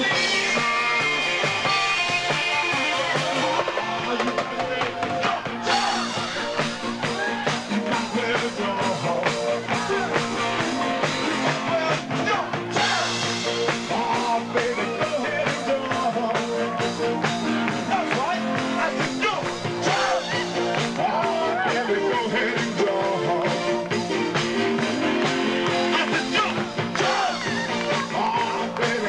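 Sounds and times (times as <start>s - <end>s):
live dance band playing: 0.0s - 29.0s
person singing: 0.0s - 29.0s
steady drum beat: 0.0s - 29.0s.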